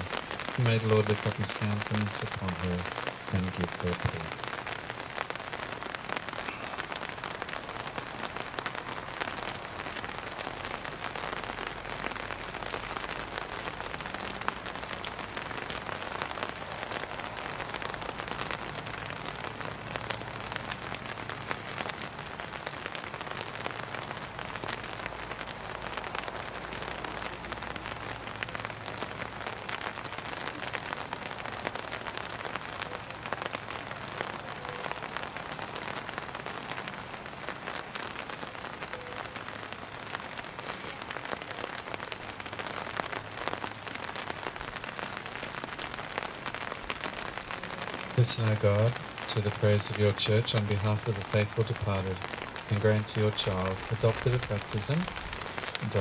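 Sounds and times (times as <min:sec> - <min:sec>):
rain on umbrellas and grass: 0:00.0 - 0:56.0.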